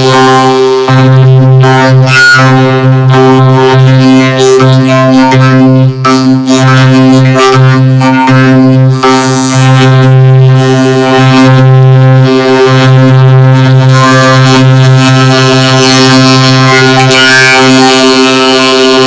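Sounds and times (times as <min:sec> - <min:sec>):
distorted electronic drone: 0:00.0 - 0:19.0.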